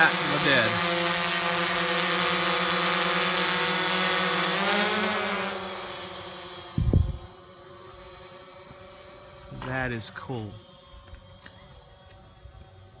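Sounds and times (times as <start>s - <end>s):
quadcopter propellers buzzing: 0.0s - 13.0s.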